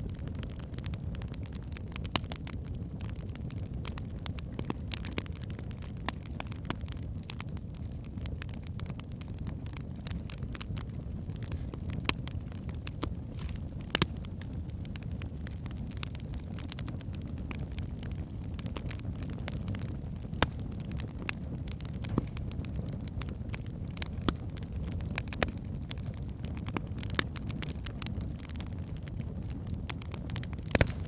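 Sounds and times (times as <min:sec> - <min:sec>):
fire flames roaring: 0:00.0 - 0:31.0
logs crackling and popping: 0:00.0 - 0:31.0.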